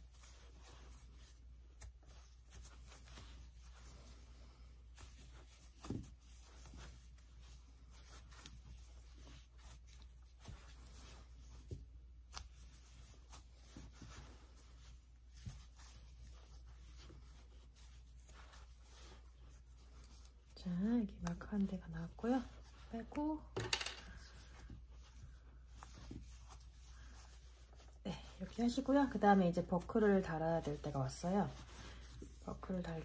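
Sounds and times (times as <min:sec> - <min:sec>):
yarn rustling over crochet hook: 0:00.0 - 0:33.0.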